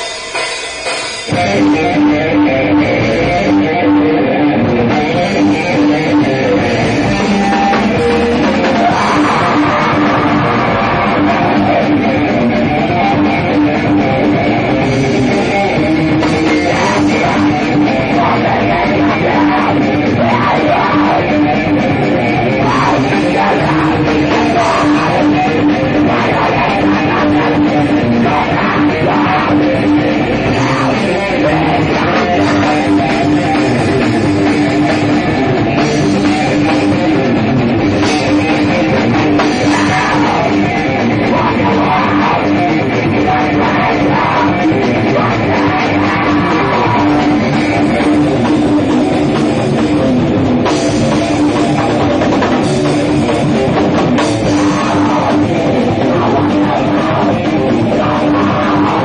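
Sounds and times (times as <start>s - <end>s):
bass guitar: 0.0s - 59.0s
distorted electric guitar: 0.0s - 59.0s
drum kit: 0.0s - 59.0s.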